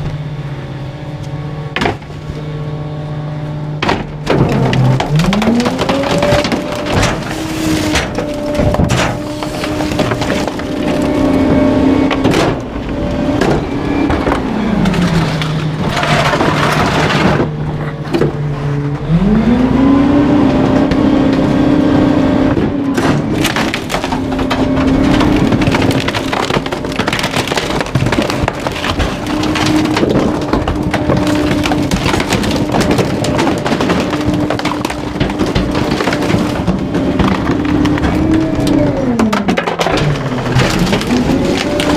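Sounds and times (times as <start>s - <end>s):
garbage truck engine revving: 0.0s - 41.9s
items cracking as crushed: 3.8s - 41.9s.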